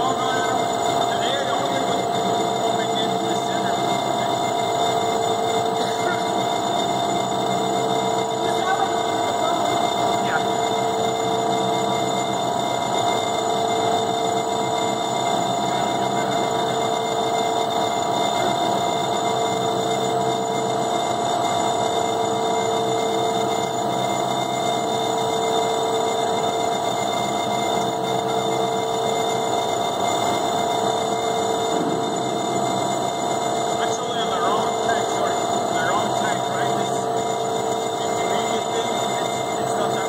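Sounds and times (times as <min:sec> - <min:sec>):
mixer humming with steady whine: 0:00.0 - 0:40.0.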